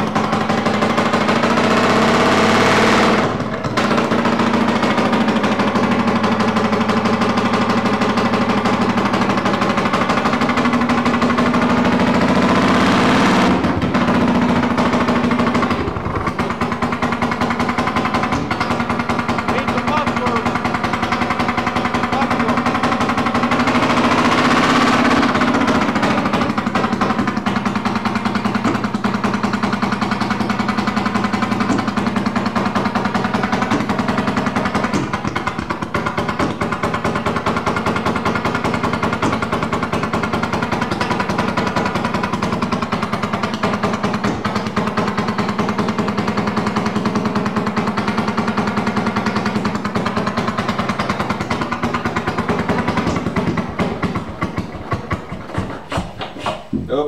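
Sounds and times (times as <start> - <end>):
two-stroke engine popping: 0.0 - 57.0.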